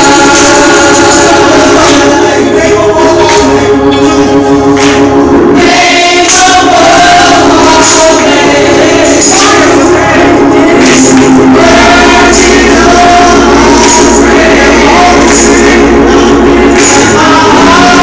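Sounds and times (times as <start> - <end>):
sustained accompaniment: 0.0 - 18.0
women's gospel choir singing: 0.0 - 18.0.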